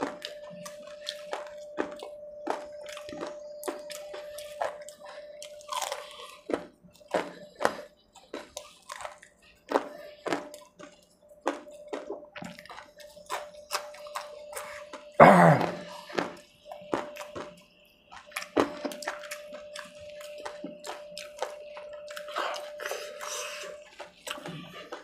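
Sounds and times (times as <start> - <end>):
faint steady hum: 0.0 - 25.0
man chewing and smacking: 0.0 - 25.0.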